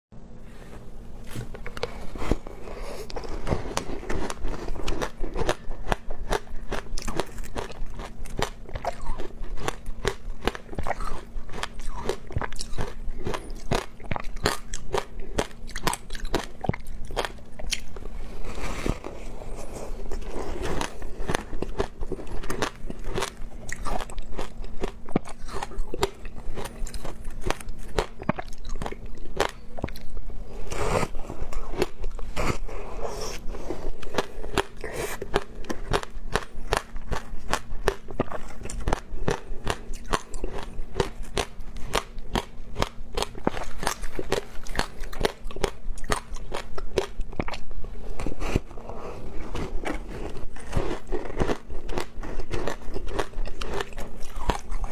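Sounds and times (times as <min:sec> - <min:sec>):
faint steady hum: 0:00.1 - 0:54.9
ice crunching between teeth: 0:02.9 - 0:30.1, 0:34.0 - 0:47.6, 0:49.4 - 0:54.9.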